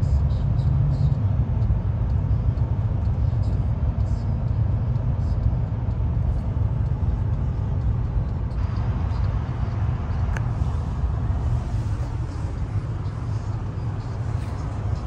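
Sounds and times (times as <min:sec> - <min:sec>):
passenger train rumbling: 0:00.0 - 0:15.0.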